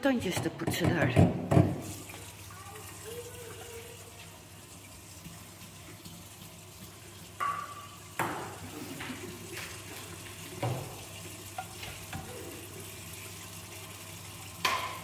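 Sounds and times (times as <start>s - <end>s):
water sloshing in washing-up bowl: 0.6s - 15.0s.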